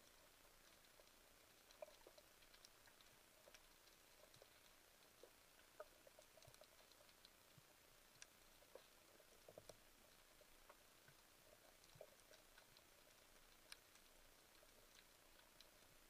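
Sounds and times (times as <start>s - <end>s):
underwater clicks and crackles: 0.0s - 16.0s.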